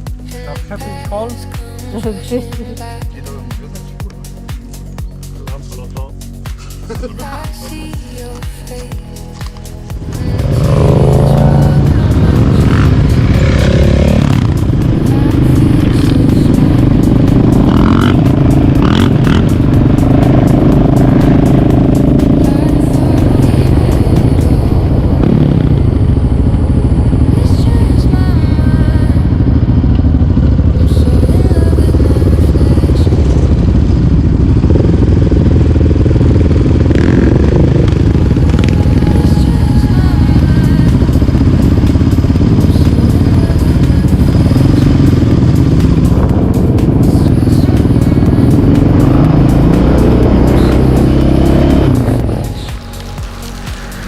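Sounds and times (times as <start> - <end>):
quad engine running: 0.0 - 54.0.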